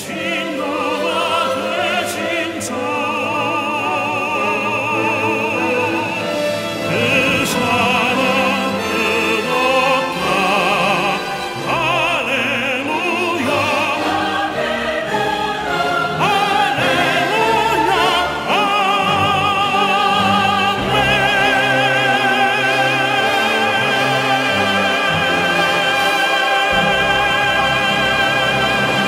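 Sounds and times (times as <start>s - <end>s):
operatic singing: 0.0s - 29.0s
instrumental accompaniment: 0.1s - 29.0s.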